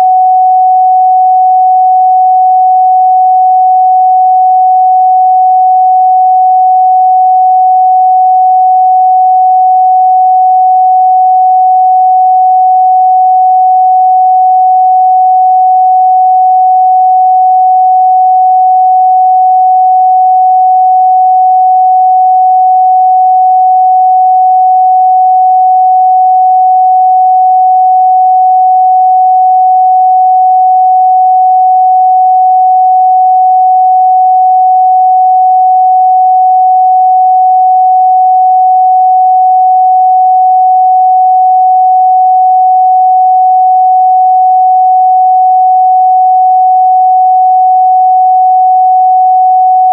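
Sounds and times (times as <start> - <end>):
sine-wave test tone: 0.0 - 49.9.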